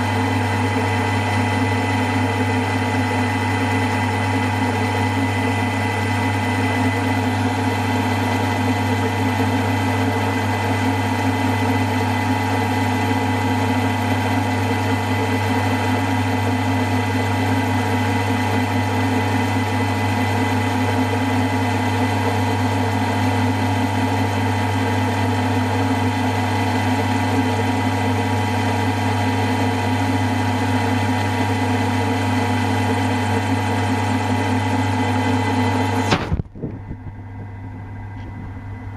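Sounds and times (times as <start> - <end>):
milling machine running: 0.0 - 36.2.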